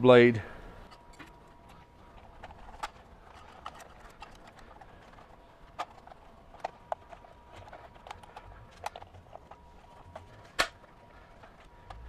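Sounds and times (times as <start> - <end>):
clicks and knocks of handled parts: 0.8 - 12.0.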